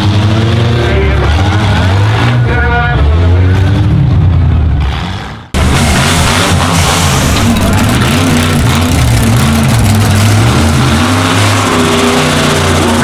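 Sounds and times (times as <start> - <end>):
pickup truck engine running loudly: 0.0 - 13.0.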